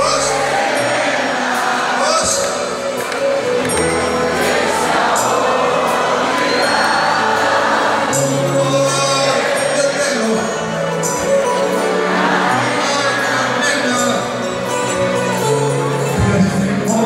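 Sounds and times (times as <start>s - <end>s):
live band music with singing: 0.0s - 17.0s.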